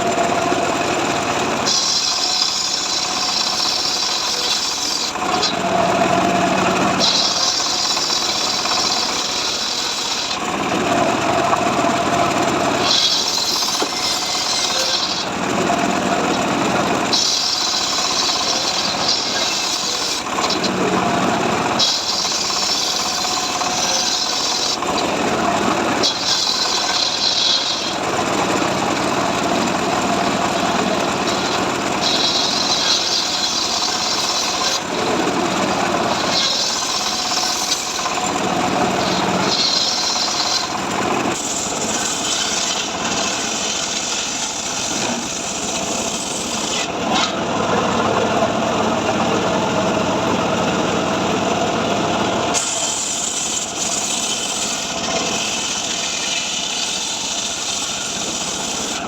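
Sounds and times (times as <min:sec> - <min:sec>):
chainsaw cutting wood: 0:00.0 - 0:47.6, 0:52.5 - 0:59.0.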